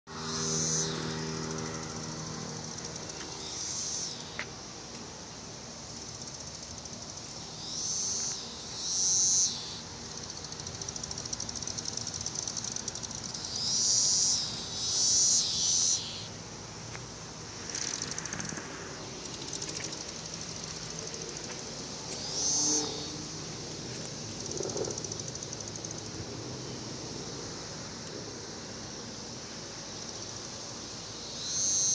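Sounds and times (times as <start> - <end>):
cicada chorus: 0.1 - 31.9
cicadas calling loudly nearby: 0.1 - 31.9.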